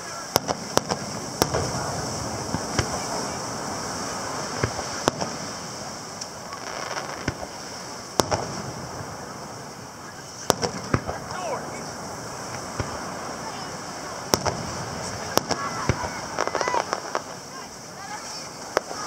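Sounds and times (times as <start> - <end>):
distant fireworks bursting: 0.0 - 19.0
steady background hiss: 0.0 - 19.0.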